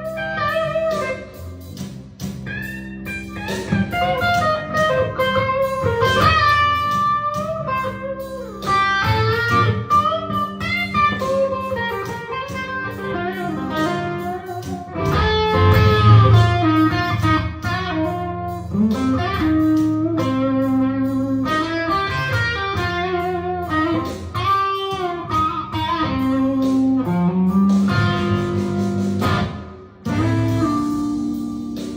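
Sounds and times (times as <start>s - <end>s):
electric guitar blues solo: 0.0s - 1.6s, 2.4s - 31.9s.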